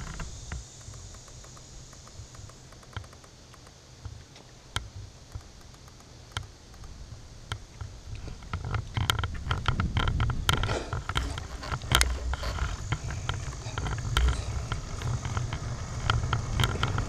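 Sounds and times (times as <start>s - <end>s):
bike clicks and rattles: 0.0s - 17.0s
wind and road rumble: 0.0s - 17.0s.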